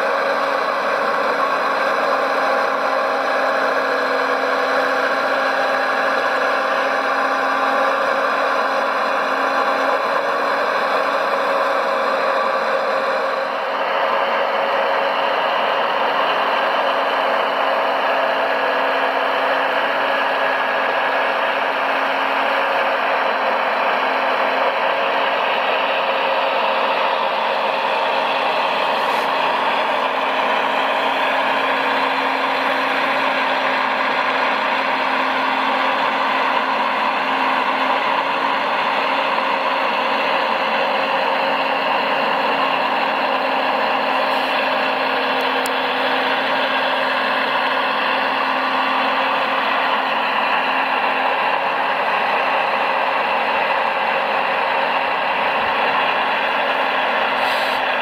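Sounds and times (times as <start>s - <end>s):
motors and gearing whining: 0.0s - 58.0s.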